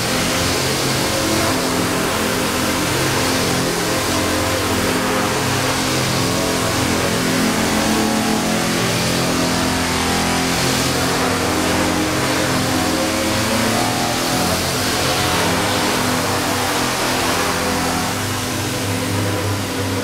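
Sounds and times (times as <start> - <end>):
engine droning hum: 0.0 - 20.0.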